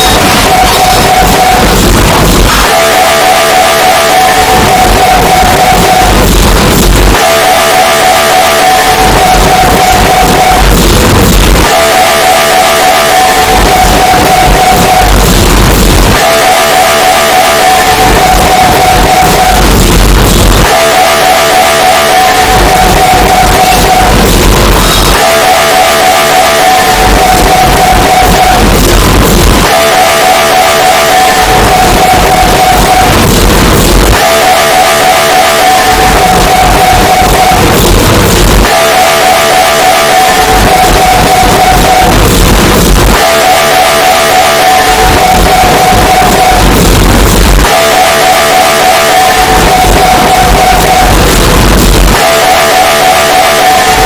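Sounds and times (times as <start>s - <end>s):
low pounding: 0.0s - 53.8s
low throb: 0.0s - 53.8s.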